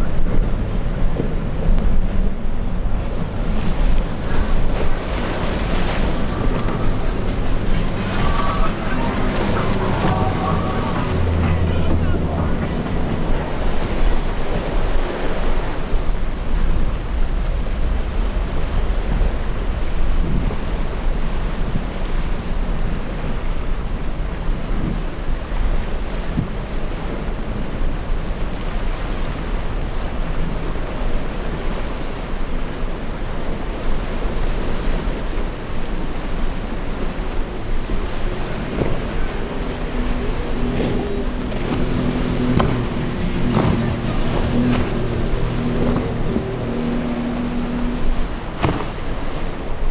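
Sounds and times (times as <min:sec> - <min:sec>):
ocean surf breaking: 0:00.0 - 0:49.9
wind buffeting microphone: 0:00.0 - 0:49.9.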